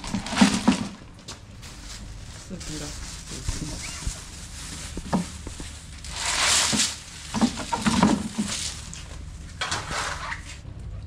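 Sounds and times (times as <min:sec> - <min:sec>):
plastic bag rustling: 0:00.0 - 0:10.5.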